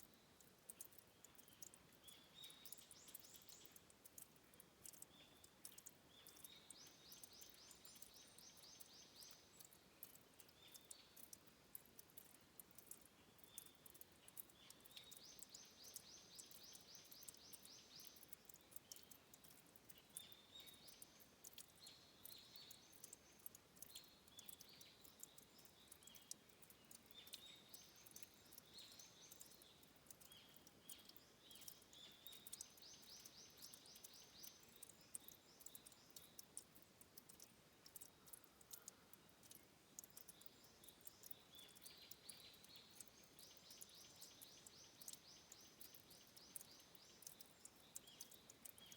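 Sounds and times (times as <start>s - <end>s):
small birds calling: 0.0s - 11.4s, 12.0s - 48.9s
small sharp ticks: 0.0s - 48.9s.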